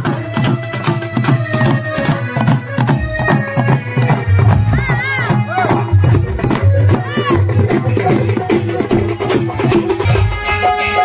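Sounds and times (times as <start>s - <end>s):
barrel drums beaten rhythmically: 0.0s - 11.0s.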